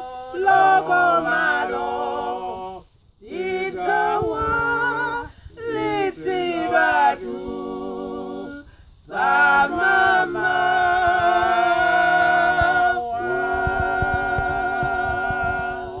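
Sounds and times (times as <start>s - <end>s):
voices singing in harmony: 0.0s - 16.0s.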